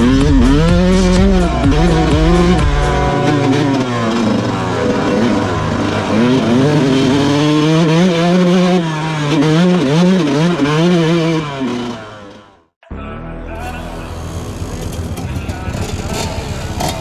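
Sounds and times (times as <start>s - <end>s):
motocross bike engine revving: 0.0s - 12.7s, 13.5s - 17.0s.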